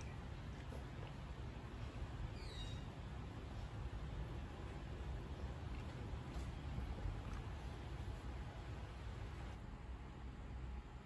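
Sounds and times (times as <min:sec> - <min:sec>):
low rumble with light hiss: 0:00.0 - 0:11.0.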